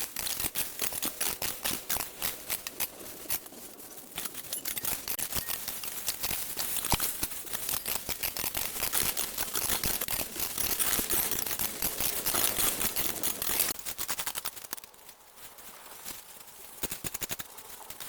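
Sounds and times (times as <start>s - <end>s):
brush rustling: 0.0s - 18.0s
dry brush crackling and snapping: 0.0s - 18.0s.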